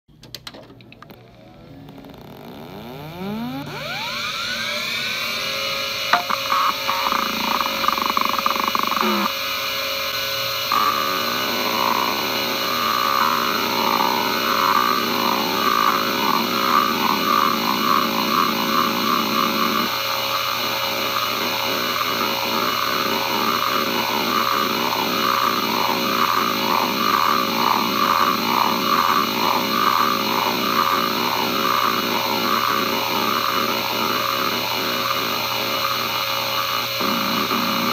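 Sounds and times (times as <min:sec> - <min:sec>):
hard drive motor whining: 0:00.7 - 0:37.9
hard drive heads chattering: 0:02.8 - 0:37.9.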